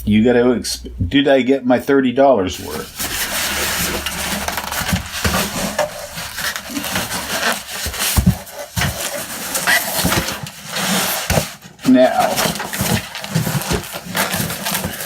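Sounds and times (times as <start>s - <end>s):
cardboard rustling and scraping: 2.6s - 15.0s.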